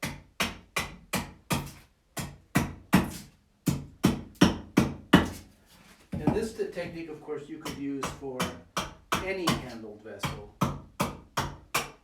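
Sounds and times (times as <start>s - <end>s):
axe chopping wood: 0.0s - 5.4s, 7.7s - 12.0s.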